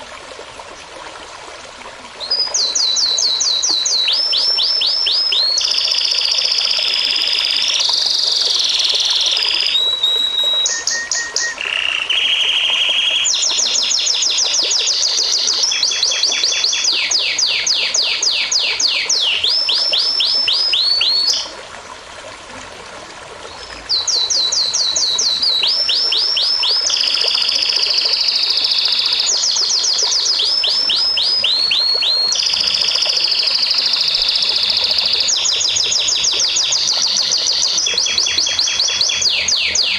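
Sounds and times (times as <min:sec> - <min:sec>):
songbird singing trills: 0:02.2 - 0:21.5, 0:23.5 - 0:39.9.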